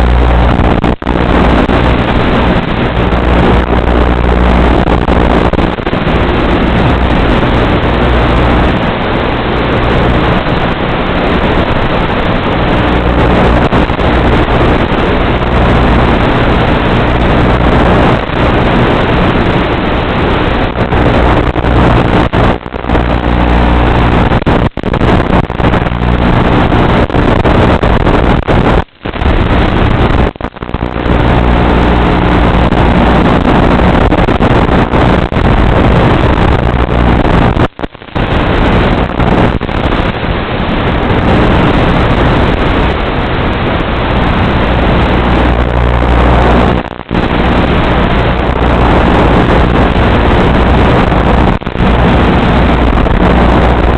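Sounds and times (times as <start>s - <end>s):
wind rush: 0.0s - 53.9s.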